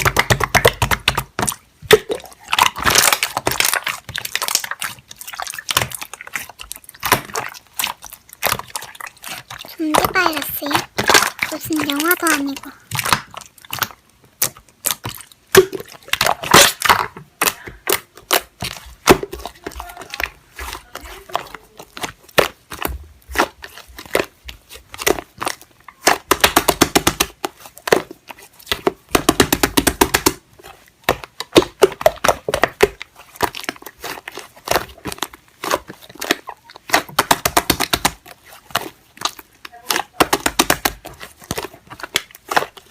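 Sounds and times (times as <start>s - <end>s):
slime popping and crackling: 0.0s - 42.9s.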